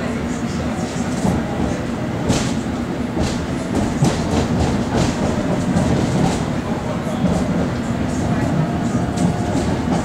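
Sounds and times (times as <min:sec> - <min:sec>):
train rumble inside carriage: 0:00.0 - 0:10.0
train wheels clicking: 0:01.0 - 0:10.0.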